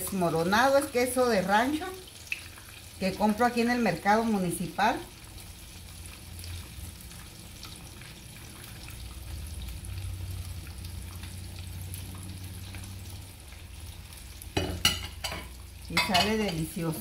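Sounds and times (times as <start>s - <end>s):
food sizzling in pans: 0.0s - 17.0s.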